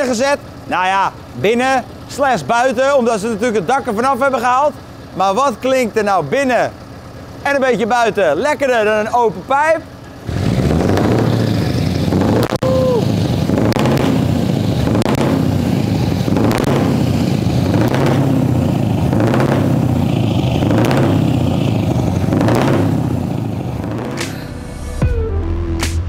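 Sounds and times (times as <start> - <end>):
loud diesel engine through exhaust: 0.0 - 25.0.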